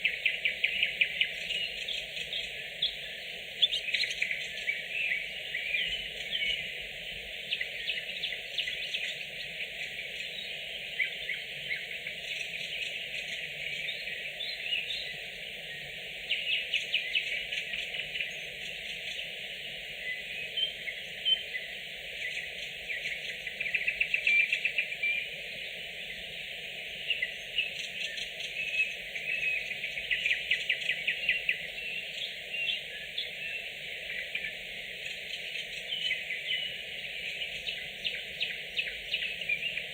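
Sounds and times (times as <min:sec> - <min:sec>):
background hiss: 0:00.0 - 0:39.9
nightingales singing: 0:00.0 - 0:39.9.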